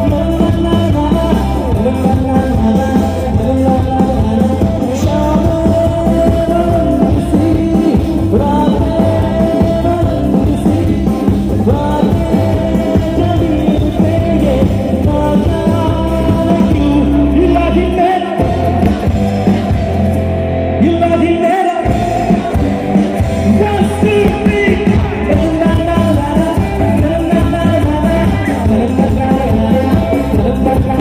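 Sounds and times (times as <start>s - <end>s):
man singing: 0.0s - 20.1s, 20.7s - 31.0s
live band playing amplified music: 0.0s - 31.0s.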